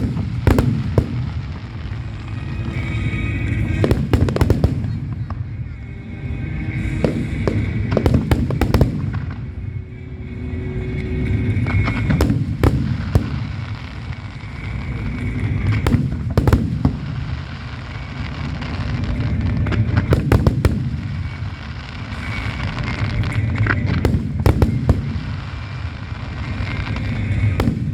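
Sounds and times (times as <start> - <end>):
crackling firework reports: 0.0 - 27.9
deep rumble of fireworks bursting: 0.0 - 27.9.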